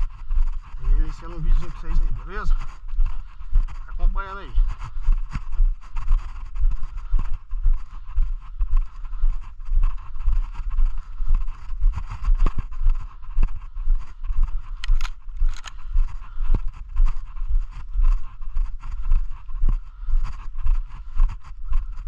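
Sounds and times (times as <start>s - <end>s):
footsteps on soil and grass: 0.0s - 22.0s.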